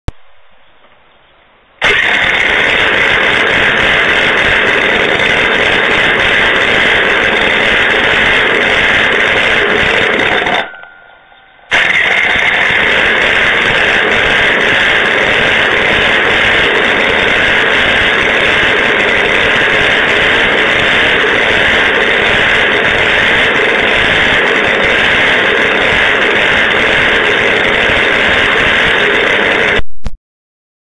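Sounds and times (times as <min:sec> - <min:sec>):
miniature engine running: 0:01.8 - 0:10.7, 0:11.7 - 0:29.8.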